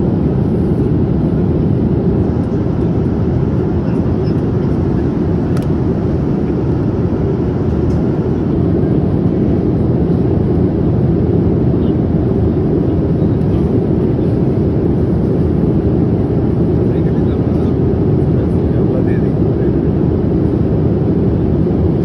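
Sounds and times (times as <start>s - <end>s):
airliner engine roar in cabin: 0.0s - 22.0s.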